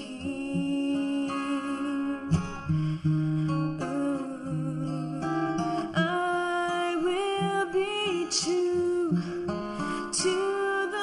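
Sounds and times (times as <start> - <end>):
acoustic guitar instrumental: 0.0 - 11.0.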